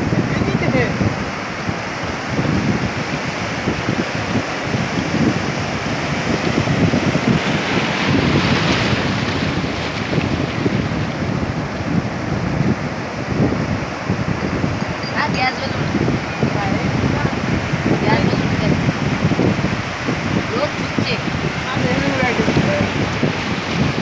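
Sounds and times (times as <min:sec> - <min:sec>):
sea surf breaking: 0:00.0 - 0:24.0
water washing over sand: 0:00.0 - 0:24.0
wind buffeting microphone: 0:00.0 - 0:24.0.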